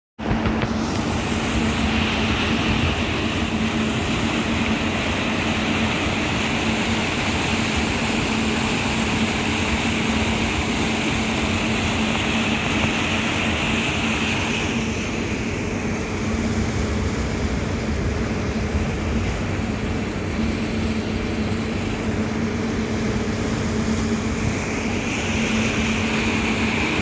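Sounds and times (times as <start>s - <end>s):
rushing noise: 0.2s - 27.0s
ship engine humming: 0.2s - 27.0s.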